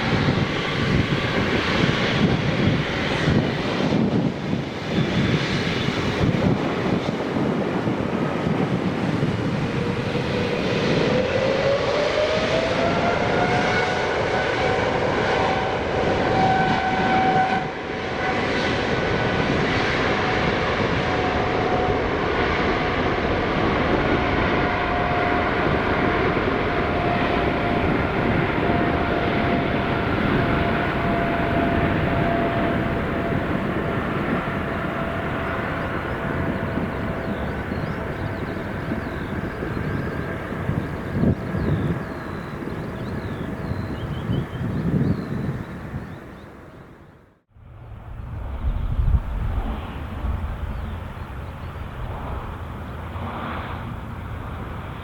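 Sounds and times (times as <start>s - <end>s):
jet engine whine: 0.0s - 55.0s
jet engines roaring: 0.0s - 55.0s.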